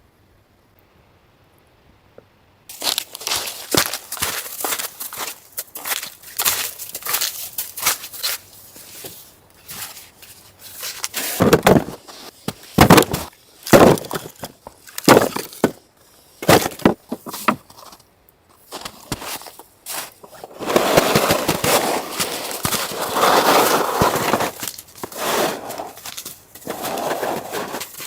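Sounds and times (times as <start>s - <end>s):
steady rustling: 2.7s - 18.0s, 18.6s - 28.0s.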